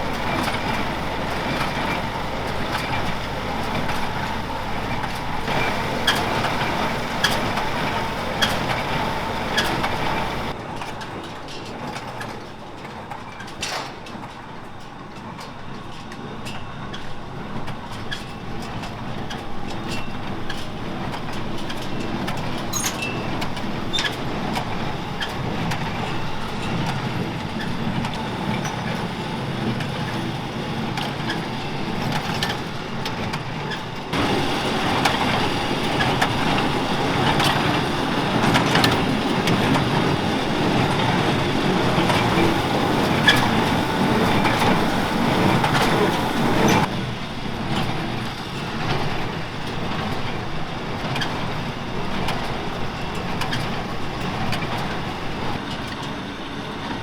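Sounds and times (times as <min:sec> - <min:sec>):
tractor and baler running: 0:00.0 - 0:57.0.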